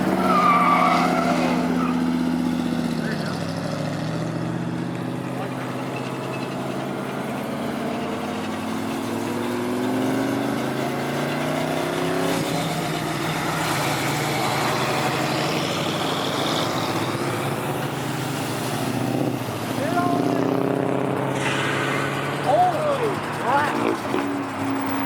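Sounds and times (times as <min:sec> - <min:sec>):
car engines idling: 0:00.0 - 0:25.0
car revving and pulling away: 0:00.0 - 0:25.0
rough engine rush: 0:00.0 - 0:25.0.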